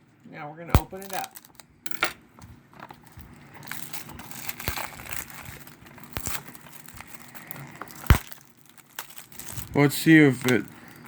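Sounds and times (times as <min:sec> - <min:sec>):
plastic wrap tearing and crinkling: 0:00.8 - 0:01.6, 0:03.0 - 0:11.0.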